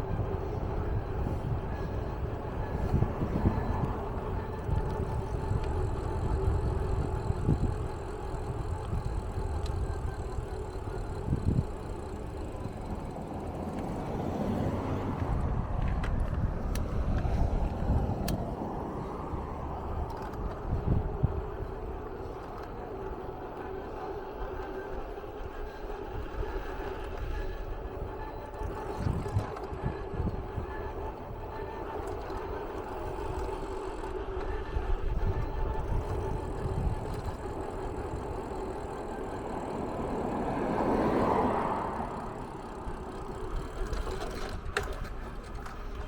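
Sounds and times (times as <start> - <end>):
mechanical hum with pitched tone: 0.0 - 46.0.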